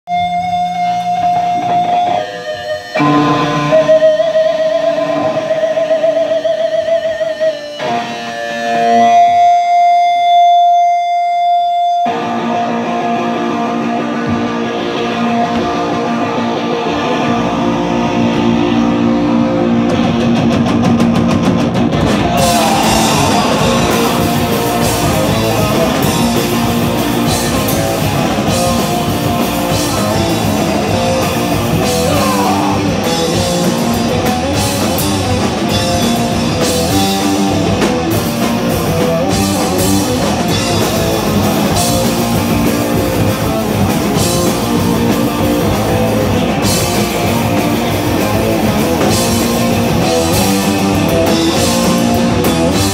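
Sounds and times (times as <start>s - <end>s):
distorted electric guitar notes: 0.0s - 52.9s
punk band playing: 0.0s - 52.9s.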